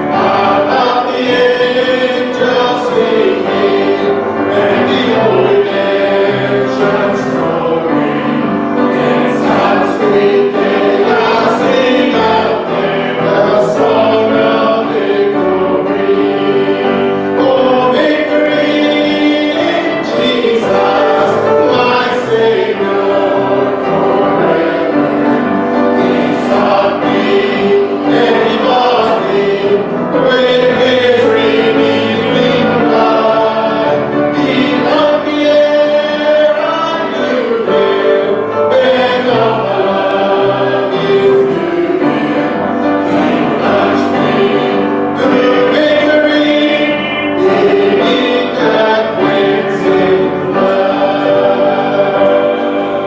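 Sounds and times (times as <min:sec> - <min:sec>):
congregation singing a hymn: 0:00.0 - 0:53.0
piano accompaniment: 0:00.0 - 0:53.0.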